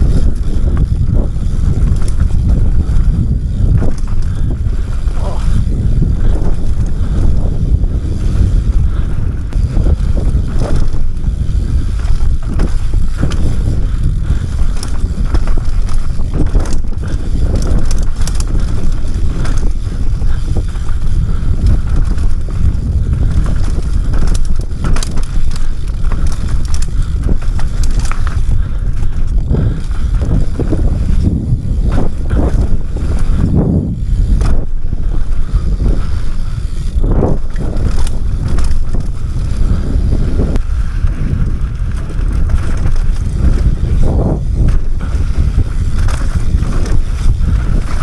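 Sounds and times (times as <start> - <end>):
bike knocking and rattling: 0.0 - 48.0
tyres rumbling on dirt: 0.0 - 48.0
wind buffeting a camera: 0.0 - 48.0.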